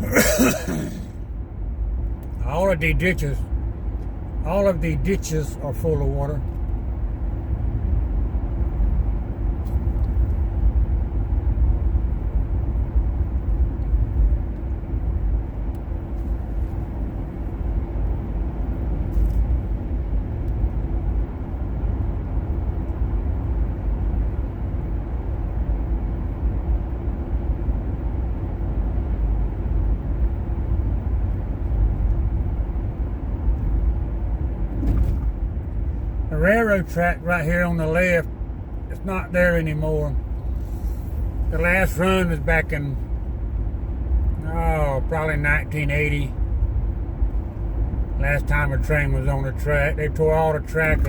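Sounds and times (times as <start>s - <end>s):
car engine and tyres rumbling: 0.0s - 51.0s
faint steady hum: 0.0s - 51.0s.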